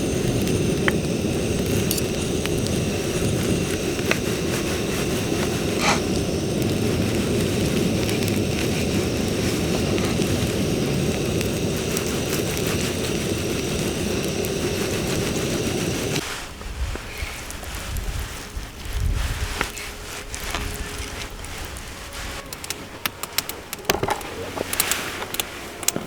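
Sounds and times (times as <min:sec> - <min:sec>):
fire burning: 0:00.0 - 0:26.0
fire crackling and popping: 0:00.0 - 0:26.0.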